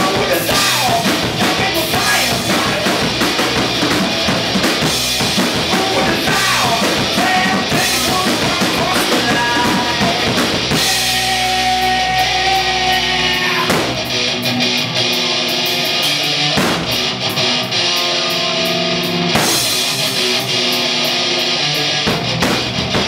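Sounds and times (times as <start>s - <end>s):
drum kit: 0.0s - 23.0s
rock band playing: 0.0s - 23.0s.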